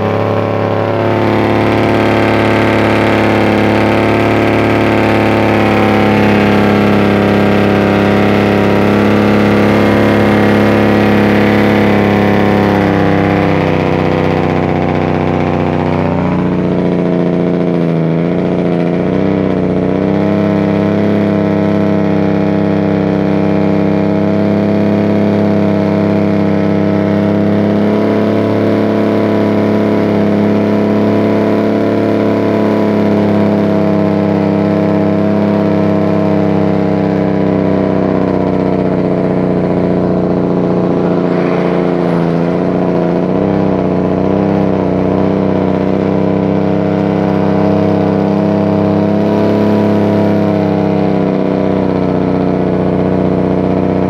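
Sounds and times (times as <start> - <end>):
truck engine braking: 0.0 - 54.0.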